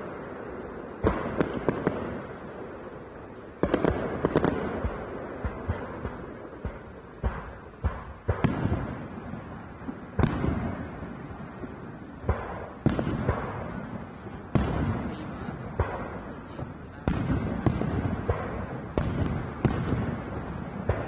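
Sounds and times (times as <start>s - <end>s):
fireworks booming with echoing rumble: 0.0s - 21.0s.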